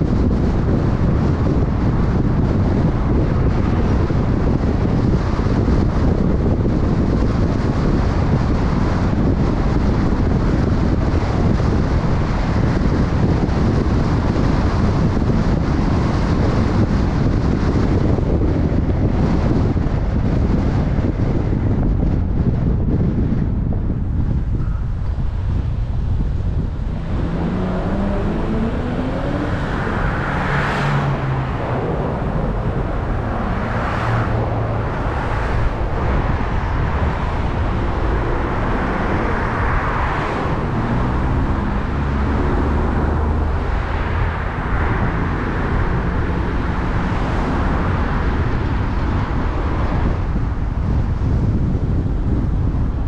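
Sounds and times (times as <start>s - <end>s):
car engine hum: 0.0s - 53.0s
road and wind noise: 0.0s - 53.0s.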